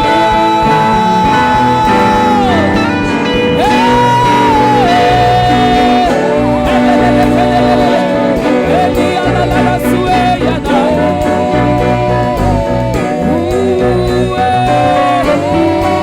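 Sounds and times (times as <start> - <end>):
instrumental backing with bass: 0.0 - 16.0.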